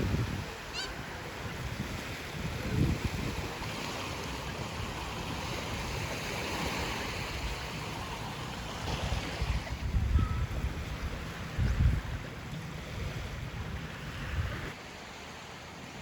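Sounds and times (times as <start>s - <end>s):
wind rumbling on microphone: 0.0s - 14.8s
sea waves washing: 0.0s - 16.0s.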